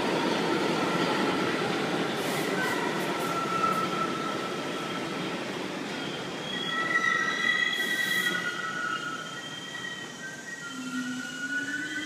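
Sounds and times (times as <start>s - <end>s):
subway train brakes squealing: 0.0s - 12.0s.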